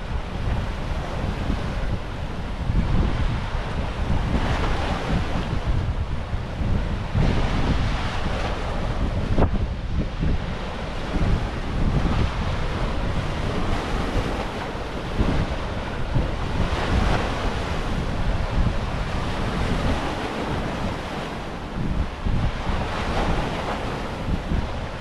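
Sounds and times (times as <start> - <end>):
ocean surf washing in: 0.0 - 25.0
wind buffeting microphone: 0.0 - 25.0.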